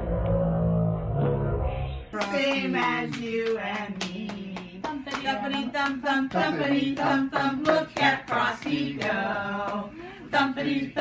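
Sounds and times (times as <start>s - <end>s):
christmas song with singing: 2.1s - 11.0s.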